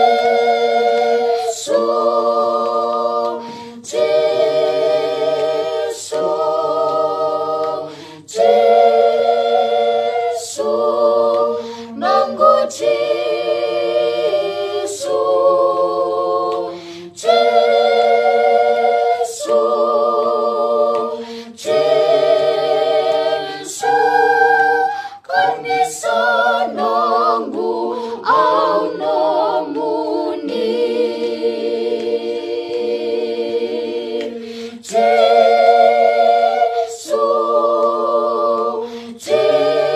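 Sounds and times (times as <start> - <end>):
choir singing a hymn a cappella: 0.0 - 39.9.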